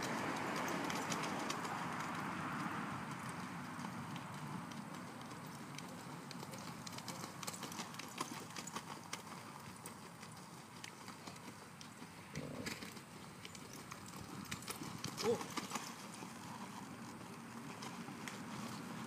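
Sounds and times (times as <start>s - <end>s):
horse hooves cantering on sand: 0.0s - 19.0s.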